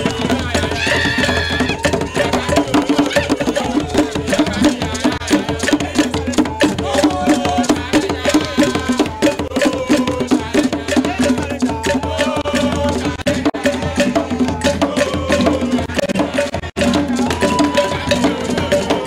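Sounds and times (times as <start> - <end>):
fast percussion beat: 0.0 - 19.0.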